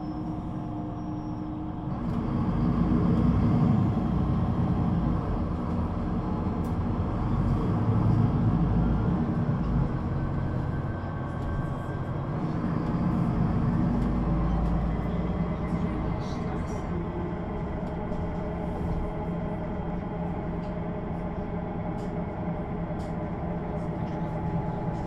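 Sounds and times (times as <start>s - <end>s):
bus diesel engine from inside: 0.0s - 25.0s.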